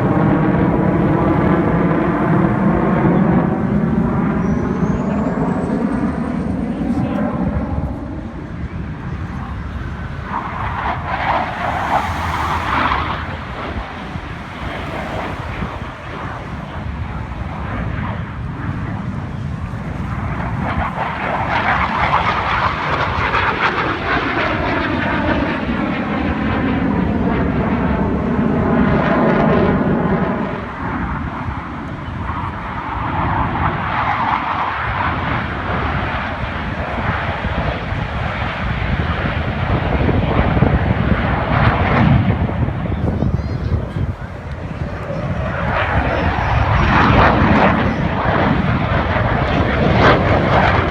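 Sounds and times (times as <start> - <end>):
aircraft engines roaring overhead: 0.0 - 50.9.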